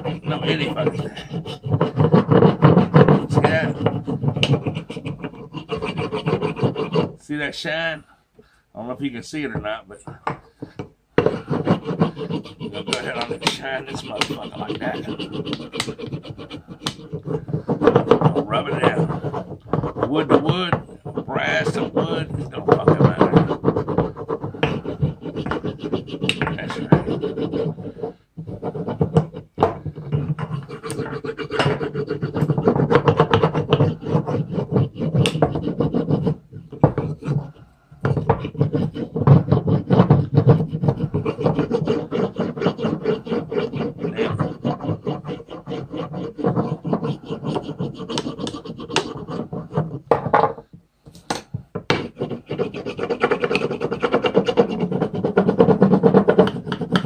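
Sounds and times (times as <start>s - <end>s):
wood rubbing on wood: 0.0s - 7.4s, 8.8s - 57.0s.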